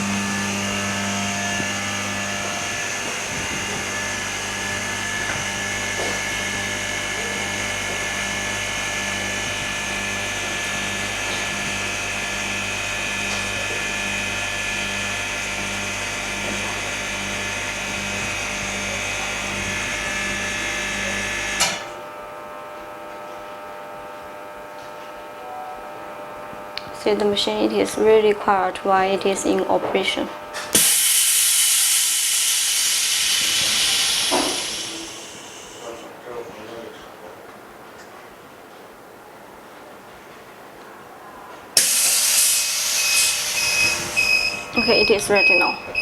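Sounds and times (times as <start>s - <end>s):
machine hum and whine: 0.0s - 36.2s, 41.2s - 46.0s.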